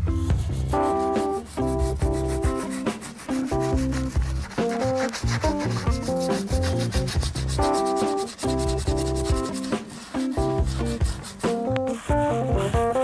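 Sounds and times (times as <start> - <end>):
background keyboard music: 0.0 - 13.0
rotary brush rasping on metal: 0.3 - 13.0.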